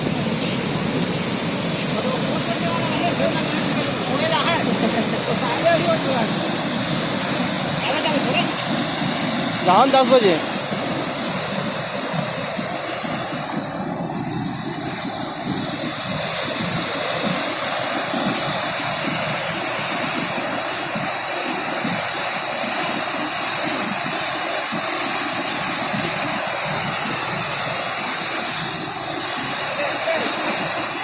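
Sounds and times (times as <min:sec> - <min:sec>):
floodwater rushing in river: 0:00.0 - 0:31.0.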